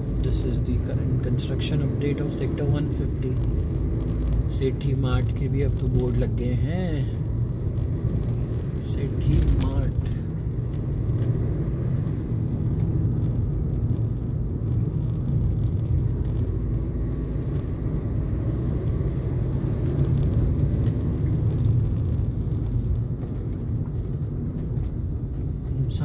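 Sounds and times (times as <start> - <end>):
car driving interior rumble: 0.0 - 26.0.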